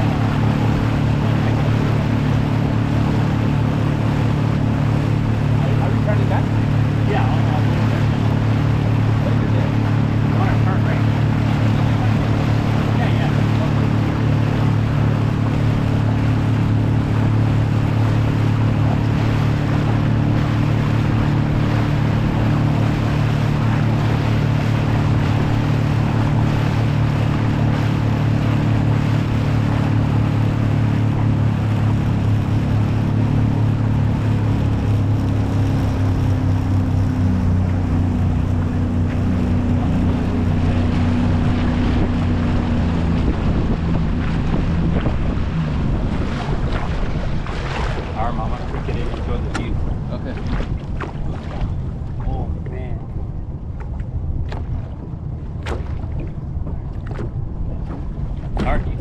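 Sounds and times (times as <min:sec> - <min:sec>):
outboard motor running: 0:00.0 - 0:59.0
water rushing along hull: 0:00.0 - 0:59.0.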